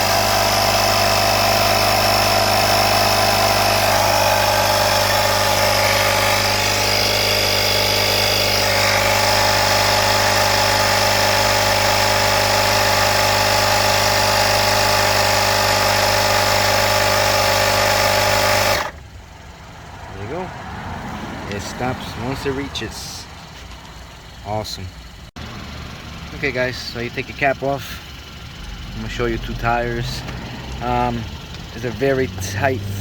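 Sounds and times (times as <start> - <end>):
tire inflator compressor running: 0.0 - 19.7, 25.0 - 33.0.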